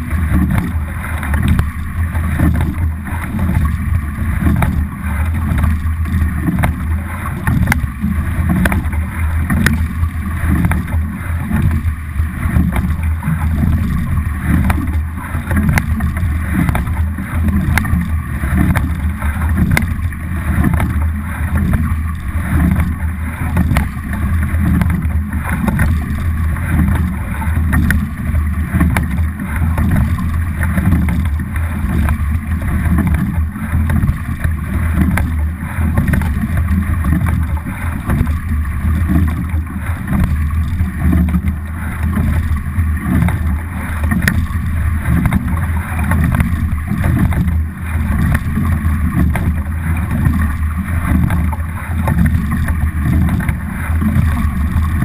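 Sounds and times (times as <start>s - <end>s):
oars clicking: 0.0s - 55.0s
water rushing along a hull: 0.0s - 55.0s.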